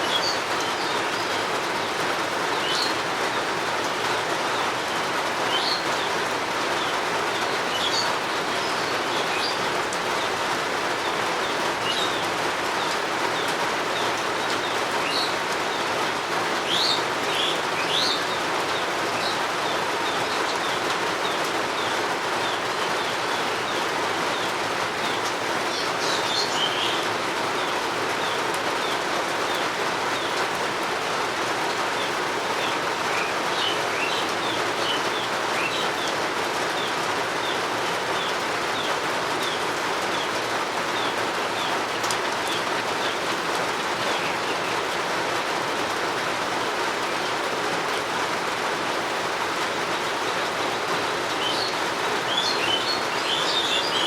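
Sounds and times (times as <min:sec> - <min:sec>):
birds chirping: 0:00.0 - 0:54.0
rain hiss: 0:00.0 - 0:54.0.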